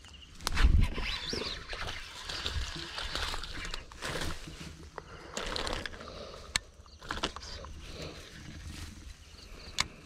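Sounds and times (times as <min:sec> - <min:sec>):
rustling through tall grass: 0:00.3 - 0:10.0.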